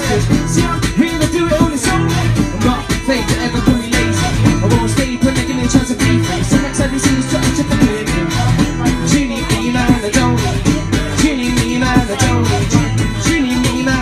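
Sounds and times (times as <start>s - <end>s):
guitar strumming: 0.0s - 14.0s
person singing: 0.0s - 14.0s
steady beat: 0.0s - 14.0s.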